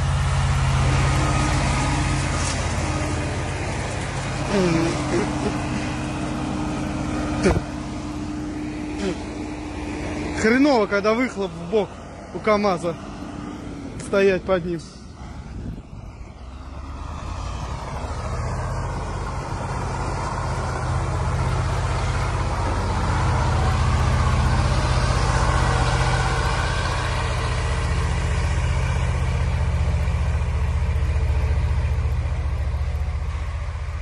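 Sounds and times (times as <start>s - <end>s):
truck diesel engine running hard: 0.0s - 34.0s.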